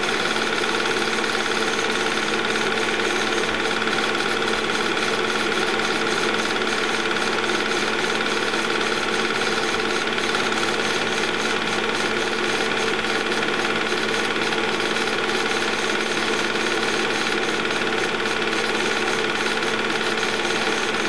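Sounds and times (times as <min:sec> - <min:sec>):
projector mechanical clatter: 0:00.0 - 0:21.0.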